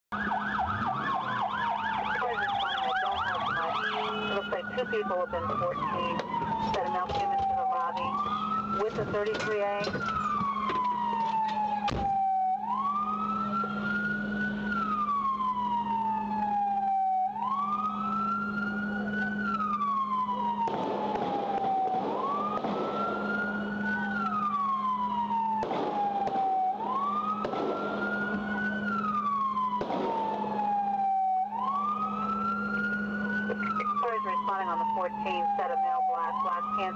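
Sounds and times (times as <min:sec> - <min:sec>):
police siren wailing: 0:00.1 - 0:36.9.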